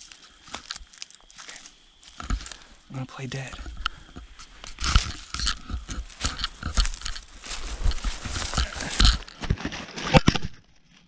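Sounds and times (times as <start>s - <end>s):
dry leaves crunching: 0.0s - 2.8s, 3.6s - 10.0s.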